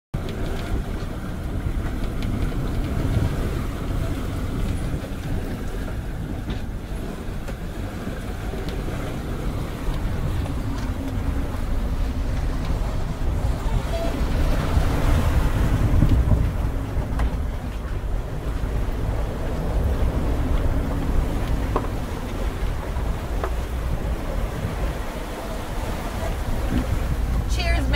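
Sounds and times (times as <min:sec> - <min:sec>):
water rushing along hull: 0:00.1 - 0:27.9
wind rumble on microphone: 0:00.1 - 0:27.9.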